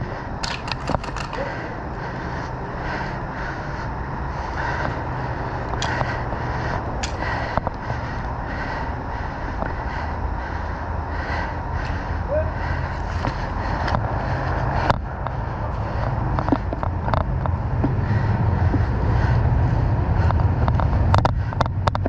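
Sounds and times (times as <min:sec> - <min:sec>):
steady outdoor noise: 0:00.0 - 0:22.0.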